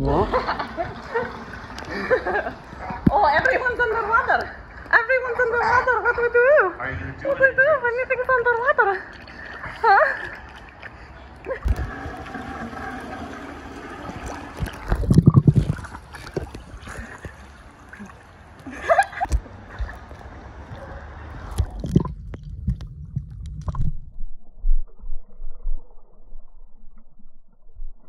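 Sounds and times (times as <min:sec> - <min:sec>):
pool water splashing: 0:00.0 - 0:24.0.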